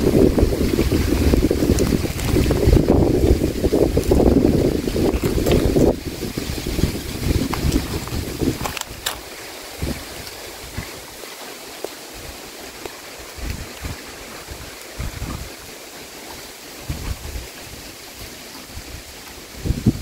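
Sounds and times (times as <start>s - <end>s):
wind buffeting microphone: 0.0s - 20.0s
wind rustling tree leaves: 0.0s - 20.0s.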